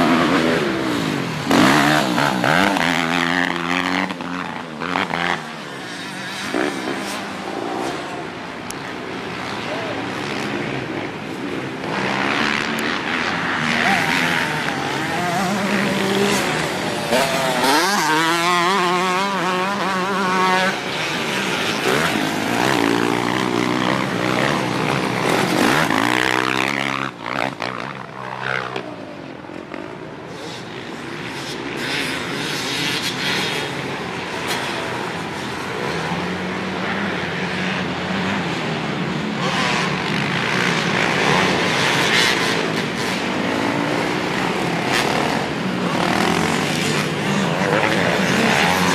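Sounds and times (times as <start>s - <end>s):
dirt bike engine revving: 0.0s - 28.8s, 30.4s - 48.9s.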